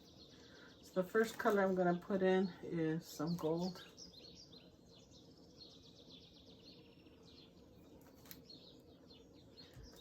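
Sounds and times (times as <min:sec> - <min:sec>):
faint birdsong: 0:00.0 - 0:10.0.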